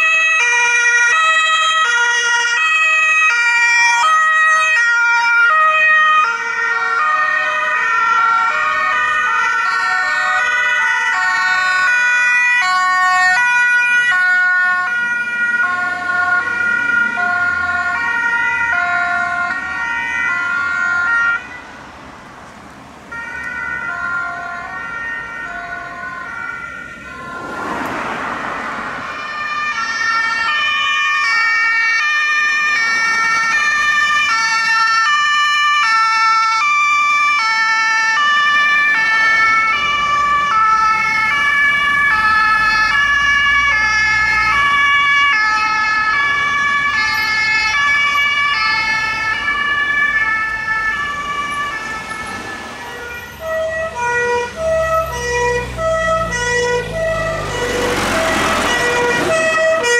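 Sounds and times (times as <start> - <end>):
lower faster two-tone siren: 0.0 - 21.7, 23.1 - 59.9
two-tone emergency sirens: 0.0 - 59.9
vehicle engines rumbling: 0.0 - 59.9.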